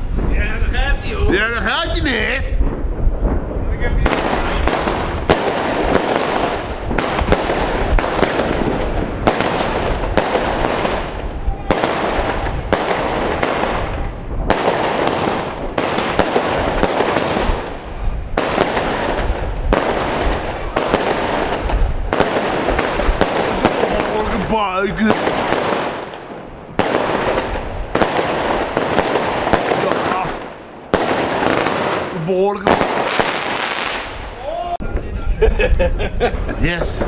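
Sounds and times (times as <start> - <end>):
sharp firework bangs: 0.0 - 34.4
firecrackers crackling: 0.0 - 37.0.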